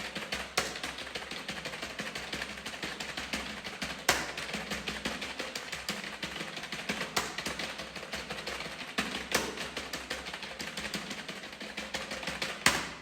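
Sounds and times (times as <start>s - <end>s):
fast keyboard typing: 0.0s - 13.0s.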